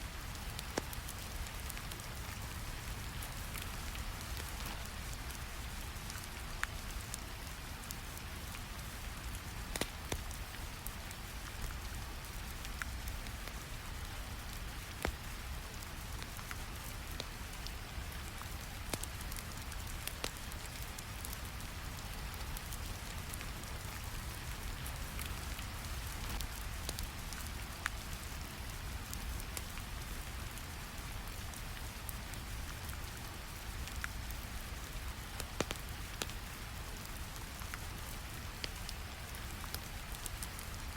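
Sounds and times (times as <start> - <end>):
steady rain: 0.0 - 40.9
fire crackling: 0.2 - 40.9.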